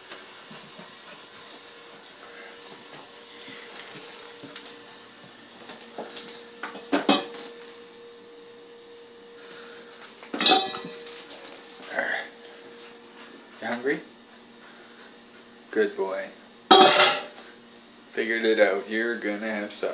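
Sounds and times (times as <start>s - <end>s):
faint hum: 0.0s - 19.9s.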